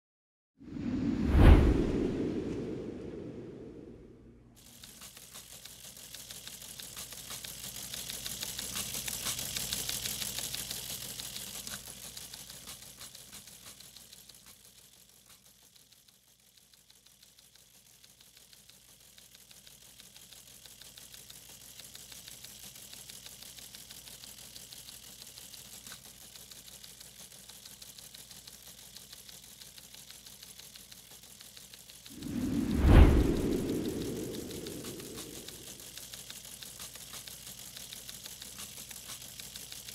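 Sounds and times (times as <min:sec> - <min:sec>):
rapid mechanical clicking: 0:04.6 - 0:39.9.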